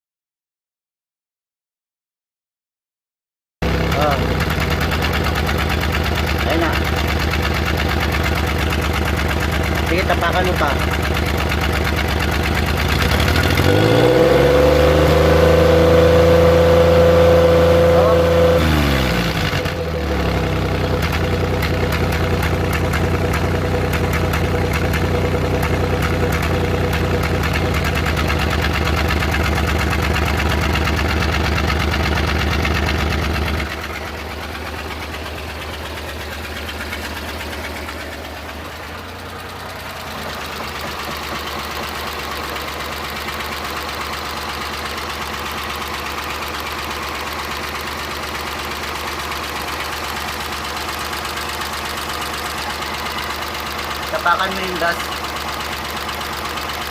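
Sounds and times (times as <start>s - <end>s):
misfiring engine running: 3.6s - 56.9s.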